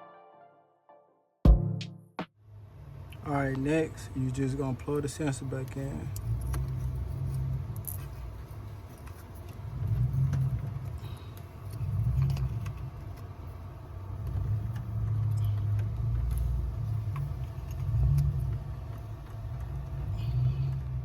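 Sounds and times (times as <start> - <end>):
car engine humming: 2.4 - 21.0.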